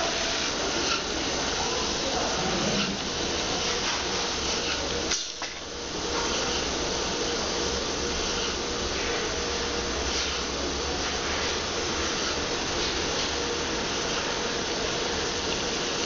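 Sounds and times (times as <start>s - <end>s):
tyre machine whirring hiss: 0.0s - 16.0s.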